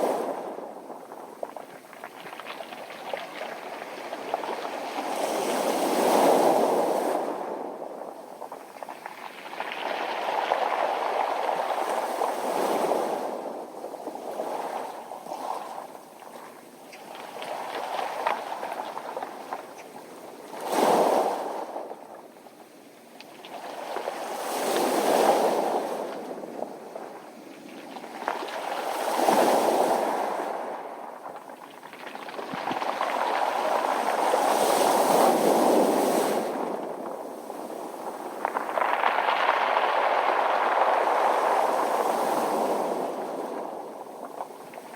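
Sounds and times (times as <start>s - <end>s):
wave washing over pebbles: 0.0s - 22.1s, 23.2s - 44.9s.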